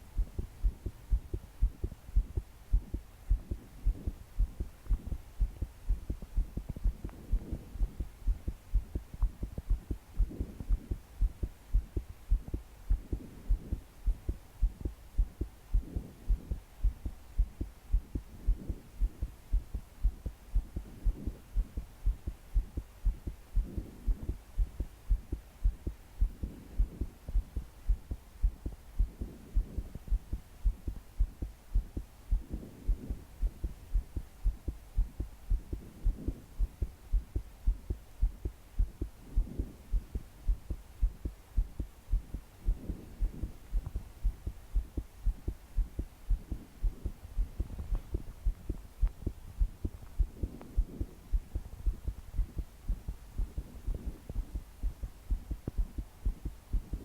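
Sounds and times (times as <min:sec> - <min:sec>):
heart beating fast: 0:00.0 - 0:57.0.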